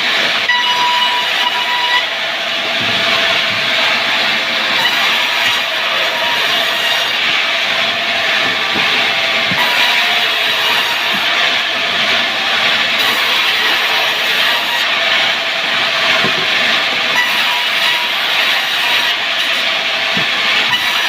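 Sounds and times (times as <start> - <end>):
power saw cutting timber: 0.0 - 21.0.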